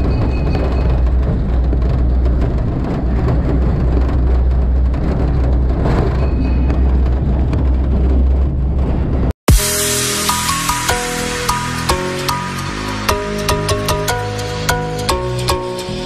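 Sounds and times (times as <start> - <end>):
train rumbling through tunnel: 0.0 - 16.0.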